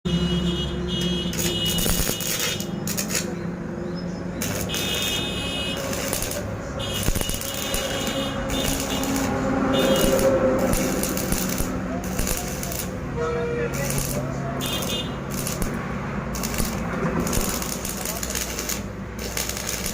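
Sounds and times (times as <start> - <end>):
arc welding crackling hiss: 1.3 - 3.3, 4.4 - 13.0, 13.7 - 19.9
welding machine low hum: 1.3 - 3.3, 4.4 - 13.0, 13.7 - 19.9.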